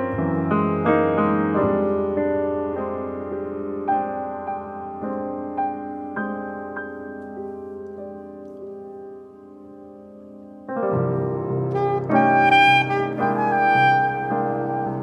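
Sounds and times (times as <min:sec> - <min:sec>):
electric piano melody: 0:00.0 - 0:15.0.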